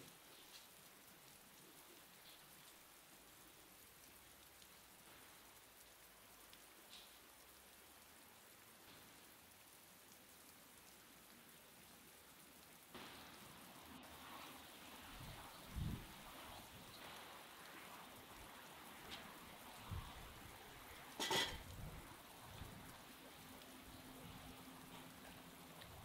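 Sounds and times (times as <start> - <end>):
light rain falling: 0.0 - 26.0
small water drips: 0.0 - 26.0.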